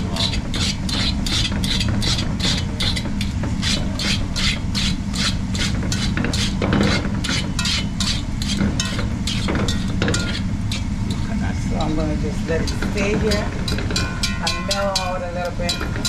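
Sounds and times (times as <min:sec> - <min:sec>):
spoon scraping a pot: 0:00.0 - 0:16.0
steady low hum: 0:00.0 - 0:16.0.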